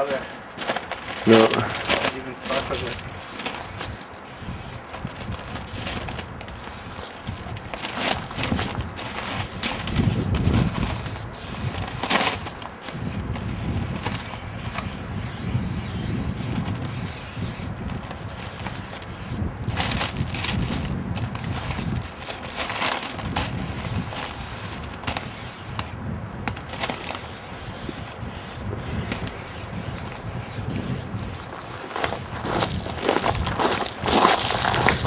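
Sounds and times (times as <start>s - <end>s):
spray paint can hissing: 1.0s - 32.8s.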